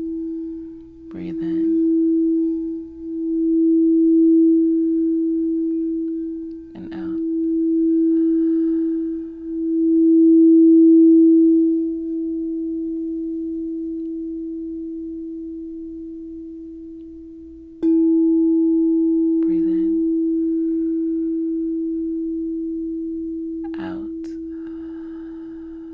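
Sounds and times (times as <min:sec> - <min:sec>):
singing bowl tone: 0:00.0 - 0:25.9.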